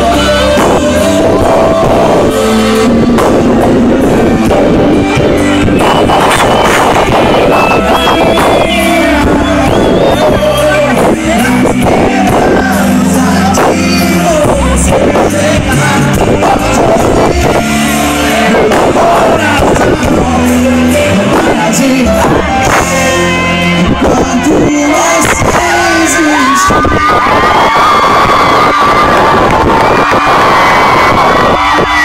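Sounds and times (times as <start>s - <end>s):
band song with singing: 0.0s - 32.0s.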